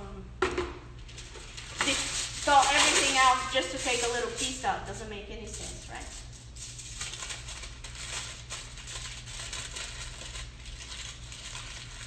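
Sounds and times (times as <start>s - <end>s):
aluminium foil crinkling: 1.0s - 12.0s.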